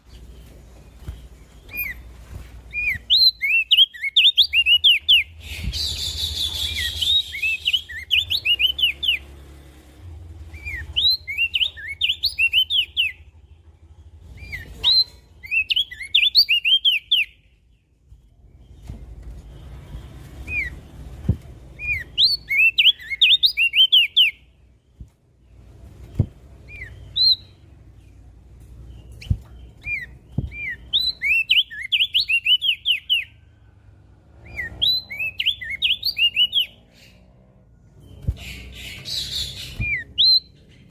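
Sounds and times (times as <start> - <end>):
bird chirpy song: 0.0 - 40.9.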